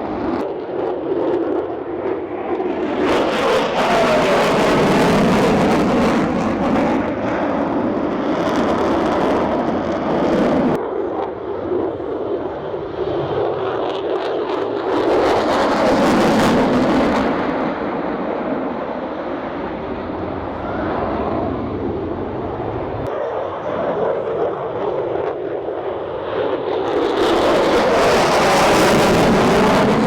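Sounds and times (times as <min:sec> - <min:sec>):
jet aircraft flying past: 0:00.0 - 0:30.0.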